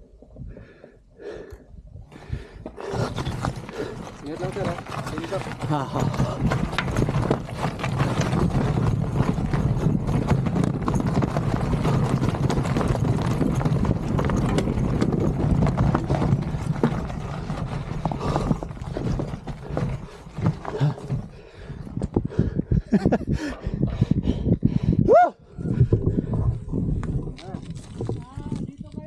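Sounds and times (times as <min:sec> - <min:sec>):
bike rattling: 0:02.1 - 0:25.0, 0:25.6 - 0:29.0
bike tyres crunching over rocks: 0:02.3 - 0:23.1, 0:25.7 - 0:29.0.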